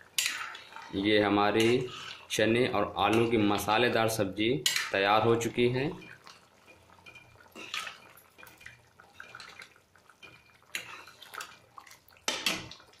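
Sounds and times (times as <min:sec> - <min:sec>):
liquid sloshing in a pan: 0:00.0 - 0:13.0.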